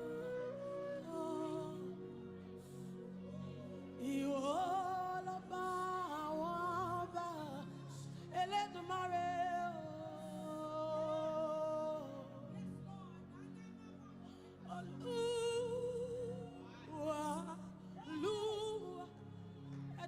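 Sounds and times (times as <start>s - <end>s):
soft instrumental backing: 0.0s - 20.0s
wordless worship singing: 0.0s - 20.0s.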